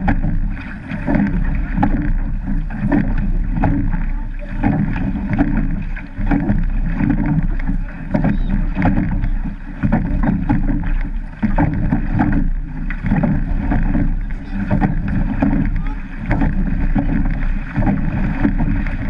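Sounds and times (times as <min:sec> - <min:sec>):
oars clicking and clunking: 0:00.0 - 0:19.0
water rushing along hull: 0:00.0 - 0:19.0.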